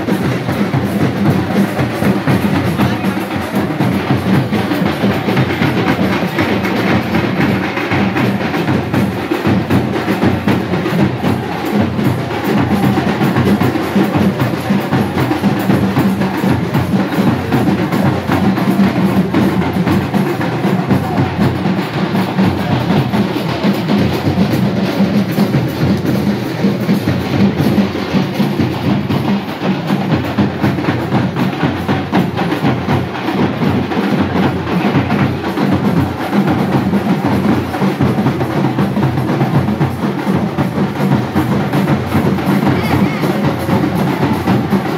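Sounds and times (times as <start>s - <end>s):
fast continuous drumming: 0.0s - 44.9s
music: 0.0s - 44.9s.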